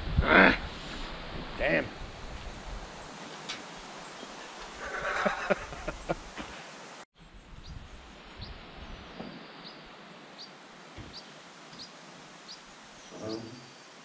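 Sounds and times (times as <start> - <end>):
woodland ambience: 0.7 - 14.0.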